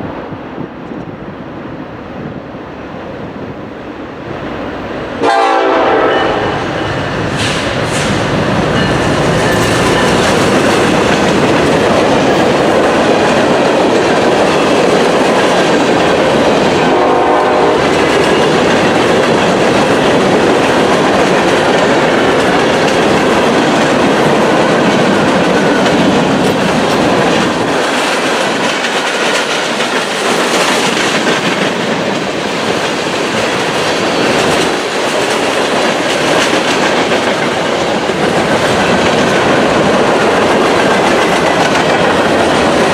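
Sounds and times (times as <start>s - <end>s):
train cars rumbling past: 0.0s - 42.9s
wheels clattering on rails: 6.3s - 16.9s, 17.6s - 42.9s.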